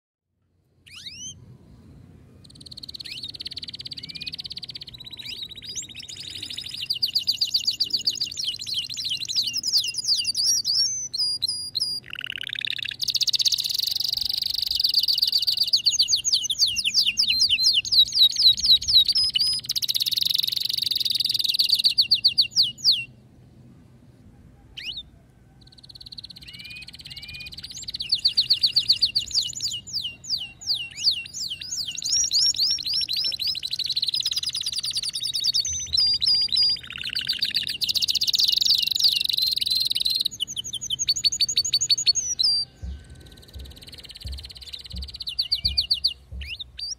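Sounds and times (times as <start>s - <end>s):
canary singing trills: 0.9s - 1.5s, 2.4s - 23.1s, 24.6s - 46.9s.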